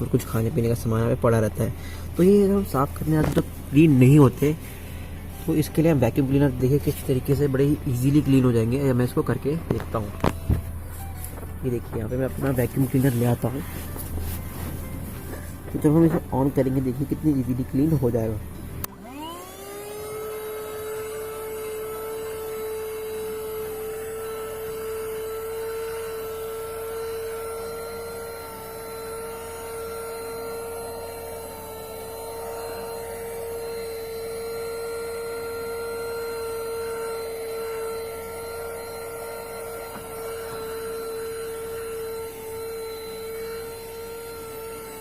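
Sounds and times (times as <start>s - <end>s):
handheld vacuum cleaner whine: 2.0s - 45.0s.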